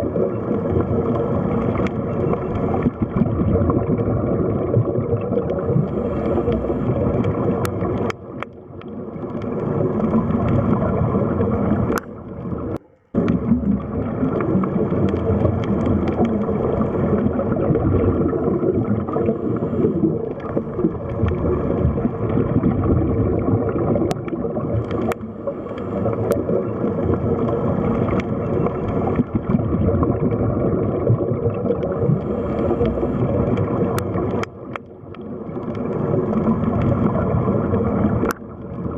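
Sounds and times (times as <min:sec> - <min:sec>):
water gurgling and bubbling: 0:00.0 - 0:38.9.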